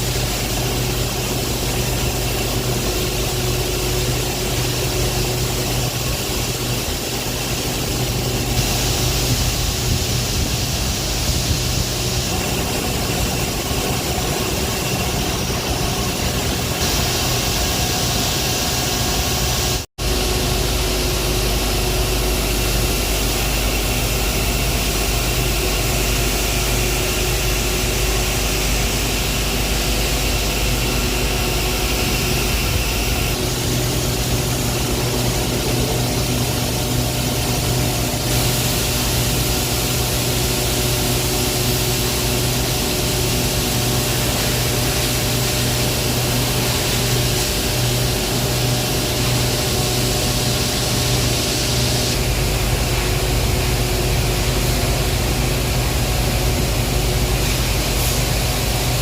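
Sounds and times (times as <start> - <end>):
industrial machinery humming: 0.0 - 59.0.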